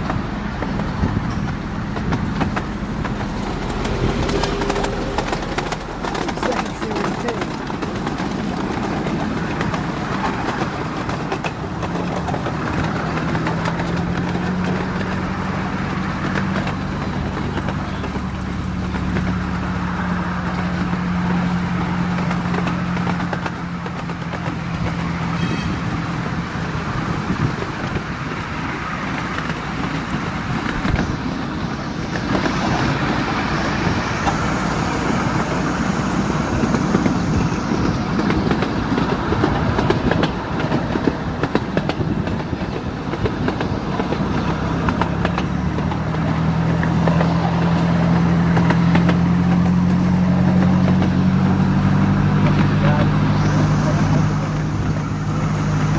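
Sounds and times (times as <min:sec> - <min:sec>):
train wheels rattling over rails: 0:00.0 - 0:55.9.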